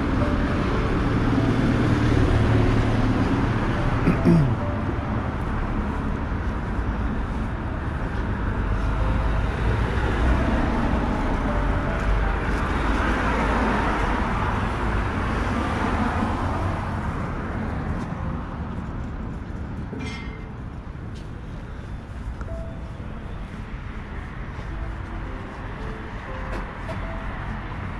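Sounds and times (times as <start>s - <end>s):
rumble of passing vehicles: 0.0s - 27.9s.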